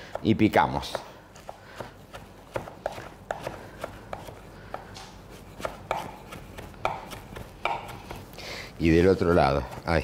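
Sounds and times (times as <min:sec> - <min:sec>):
knife chopping on wooden board: 0:00.0 - 0:08.3.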